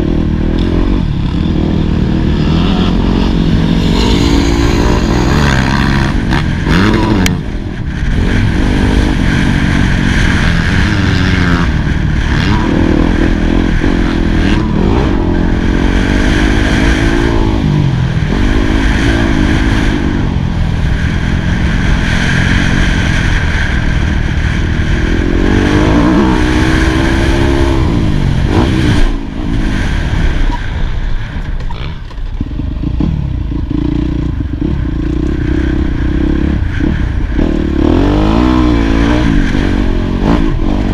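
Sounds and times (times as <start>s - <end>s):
motocross engine revving: 0.0s - 30.2s, 31.7s - 40.9s.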